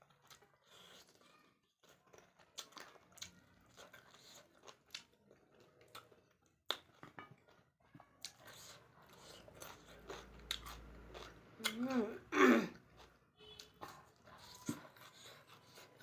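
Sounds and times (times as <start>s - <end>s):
chewing with soft crunches: 0.0s - 16.0s.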